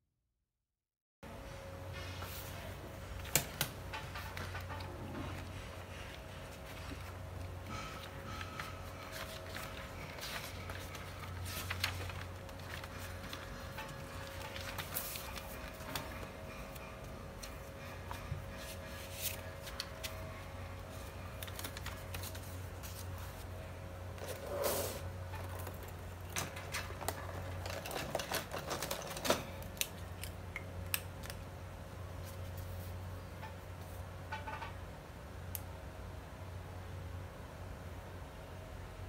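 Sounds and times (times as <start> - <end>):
faint steady hum: 1.2 - 39.0.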